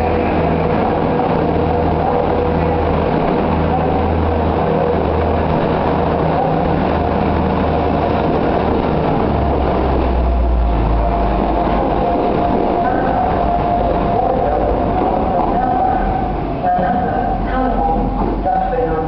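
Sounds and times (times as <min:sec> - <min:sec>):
steady whine: 0:00.0 - 0:19.0
train diesel engine running: 0:00.0 - 0:19.0.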